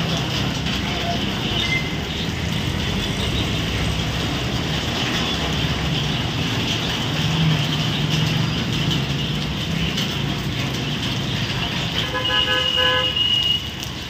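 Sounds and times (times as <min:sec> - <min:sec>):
motorbike engines running: 0:00.0 - 0:13.0.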